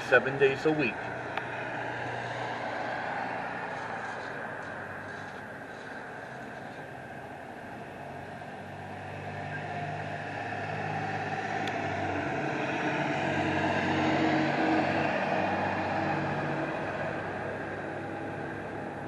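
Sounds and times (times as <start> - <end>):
vehicle engine passing by: 0.0 - 7.2, 8.1 - 19.0.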